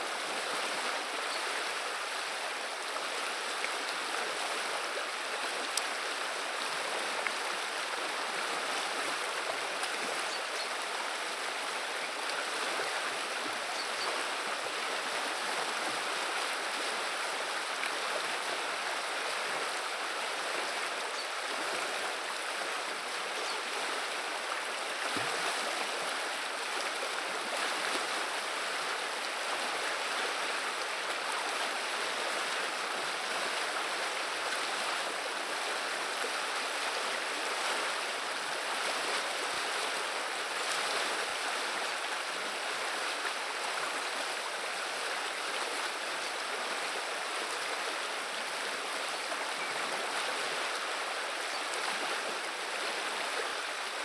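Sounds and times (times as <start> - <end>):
river water babbling: 0.0 - 54.0.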